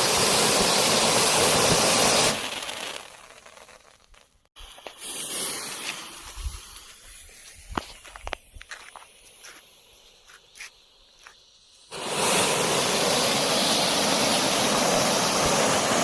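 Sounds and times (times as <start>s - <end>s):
firework fountain hissing: 0.0s - 16.0s.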